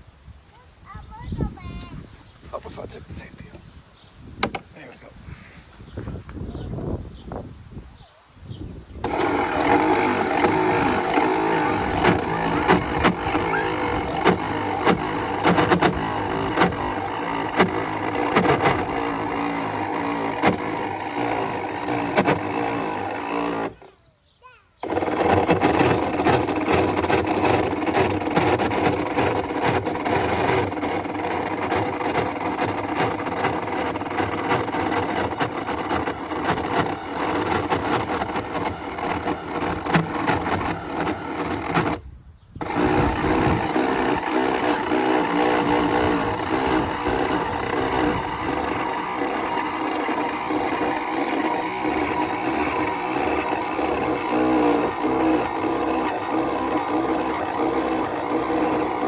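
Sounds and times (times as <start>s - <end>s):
pump motor whine: 9.0s - 24.0s, 24.8s - 42.0s, 42.6s - 59.0s.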